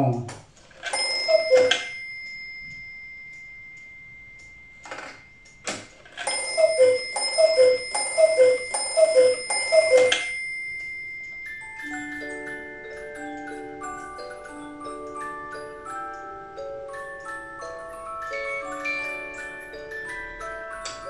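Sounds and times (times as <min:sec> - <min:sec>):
clock bell ringing: 0:00.6 - 0:21.0
cuckoo clock calls: 0:00.6 - 0:21.0.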